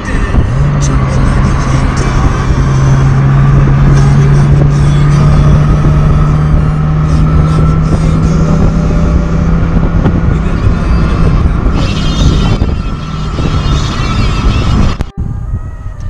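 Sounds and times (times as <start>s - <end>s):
loud engine drone: 0.0s - 16.0s
wind and road noise: 0.0s - 16.0s.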